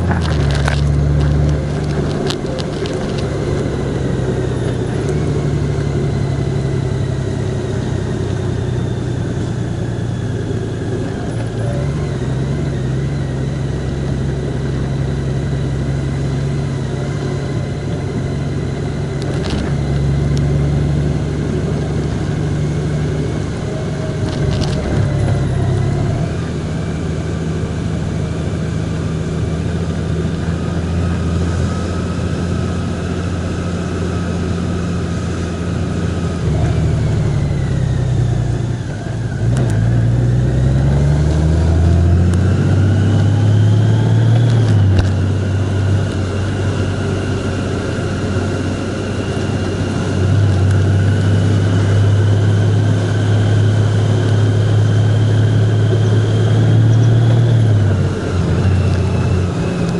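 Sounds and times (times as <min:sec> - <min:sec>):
road noise: 0:00.0 - 0:59.9
vehicle engine running: 0:00.0 - 0:59.9.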